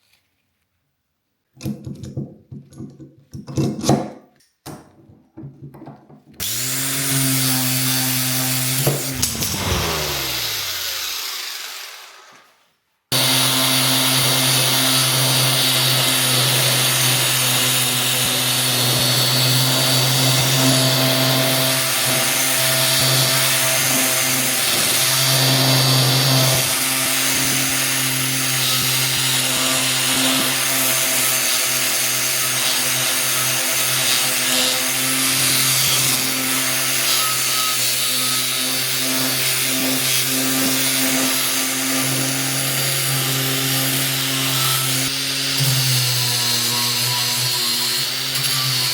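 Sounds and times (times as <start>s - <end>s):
electric power tool grinding: 6.4s - 48.9s.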